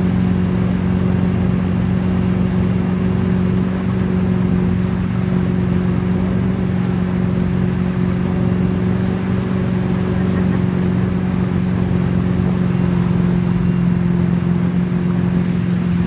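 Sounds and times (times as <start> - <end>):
boat engine drone: 0.0 - 16.0
water noise: 0.0 - 16.0.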